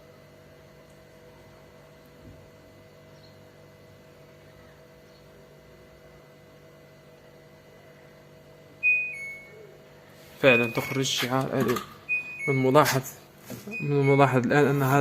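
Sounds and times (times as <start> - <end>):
faint mains hum: 0.0 - 15.0.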